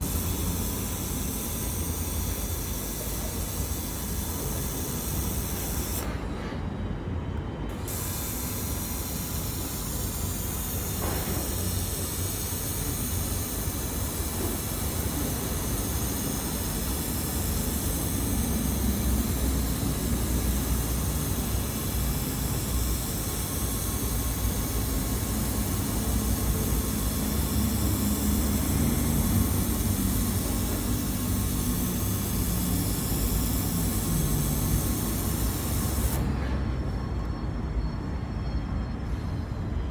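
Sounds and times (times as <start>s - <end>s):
laser welder hissing: 0.0s - 6.3s, 7.7s - 36.5s.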